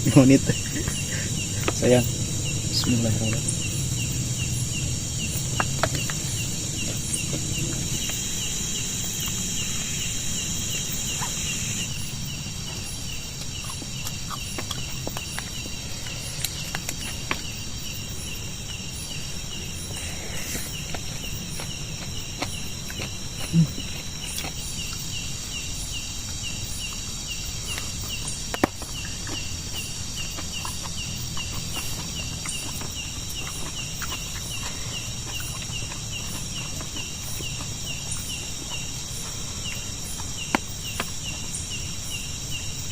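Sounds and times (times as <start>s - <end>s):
crickets chirping: 0.0s - 42.9s
high continuous insect buzz: 0.0s - 42.9s.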